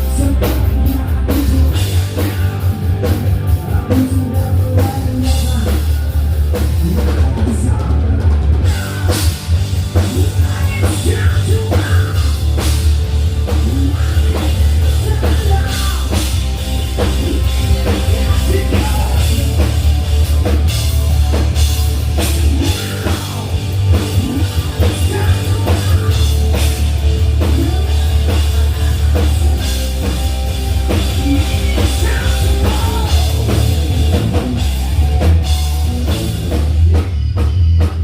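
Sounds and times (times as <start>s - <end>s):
booming bass: 0.0s - 38.0s
drum kit pounding: 0.0s - 38.0s
rock band playing: 0.0s - 38.0s.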